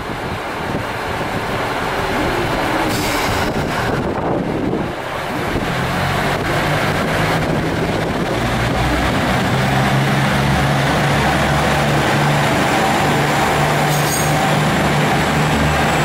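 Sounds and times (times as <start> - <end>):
diesel train engines droning: 0.0 - 16.0.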